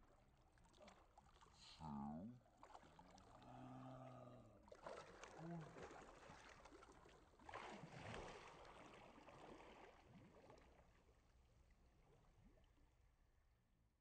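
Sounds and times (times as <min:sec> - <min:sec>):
pool water splashing and lapping: 0:00.0 - 0:13.6.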